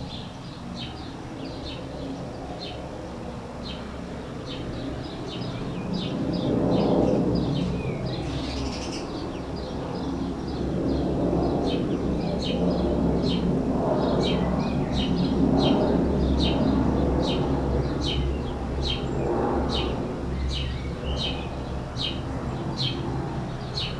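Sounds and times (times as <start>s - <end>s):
small birds chirping: 3.6s - 23.9s.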